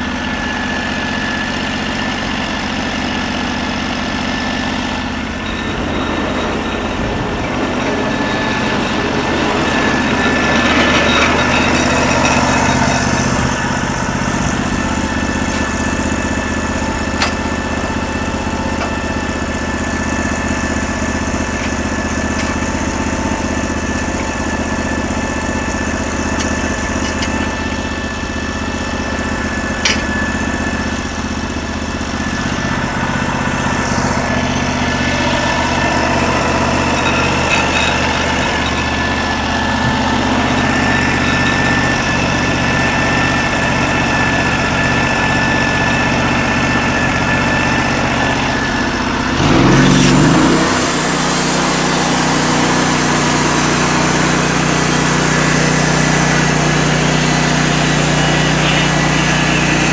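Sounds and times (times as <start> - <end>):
gas engine running: 0.0 - 59.9.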